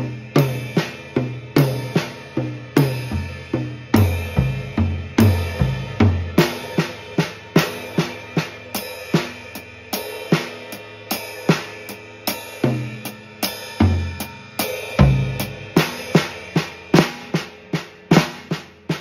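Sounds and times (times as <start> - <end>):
drum kit playing: 0.0 - 19.0.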